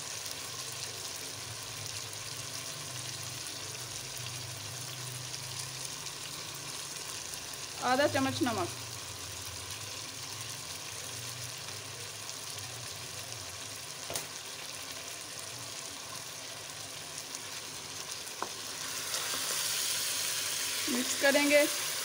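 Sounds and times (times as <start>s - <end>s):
chicken sizzling in oil: 0.0s - 22.0s.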